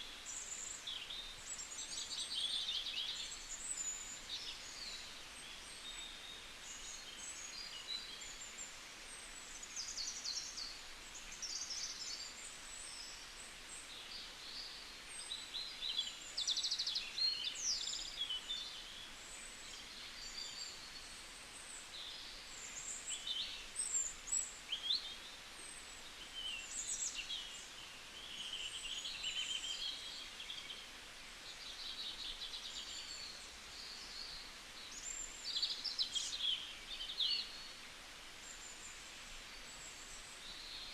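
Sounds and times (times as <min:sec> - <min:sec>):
flock of birds chirping: 0:00.0 - 0:40.9.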